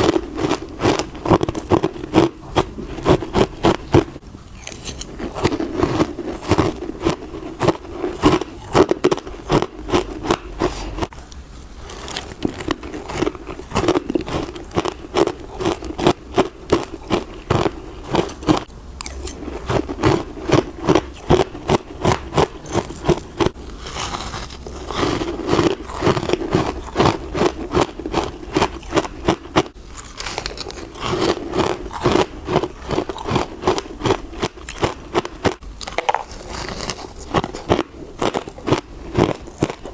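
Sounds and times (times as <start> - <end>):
crunchy ice being chewed: 0.0 - 11.2, 11.8 - 39.9.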